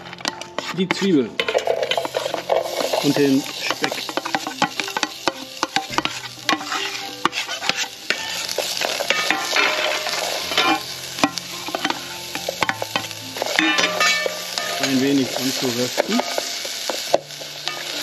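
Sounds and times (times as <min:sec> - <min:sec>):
utensil scraping a pot: 0:00.0 - 0:17.0
onions and bacon sizzling: 0:00.0 - 0:18.0.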